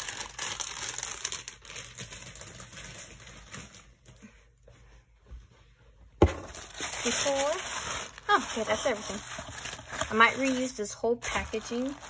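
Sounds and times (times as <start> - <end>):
plastic packaging crinkling: 0.0 - 4.2, 6.2 - 12.0.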